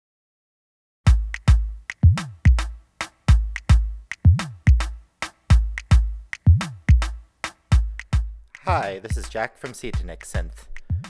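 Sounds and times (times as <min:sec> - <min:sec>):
drum machine beat: 0:01.1 - 0:11.0.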